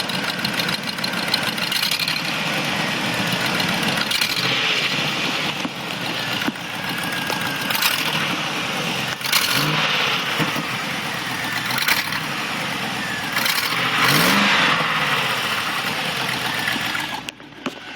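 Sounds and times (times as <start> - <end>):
engine revving: 0.0 - 17.9
engine running with clicking exhaust: 0.0 - 17.9.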